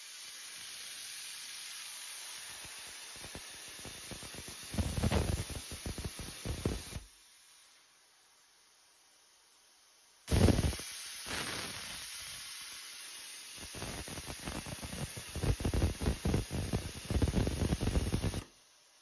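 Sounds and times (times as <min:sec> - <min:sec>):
plasma arc crackling: 0:00.0 - 0:07.2, 0:10.3 - 0:18.5
plasma cutter hissing: 0:00.0 - 0:08.2, 0:10.2 - 0:19.0.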